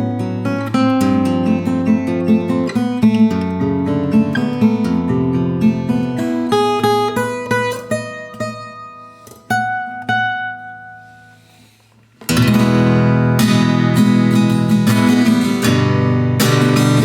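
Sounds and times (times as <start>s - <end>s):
acoustic guitar picked notes: 0.0s - 17.0s
acoustic guitar strumming: 0.0s - 17.0s.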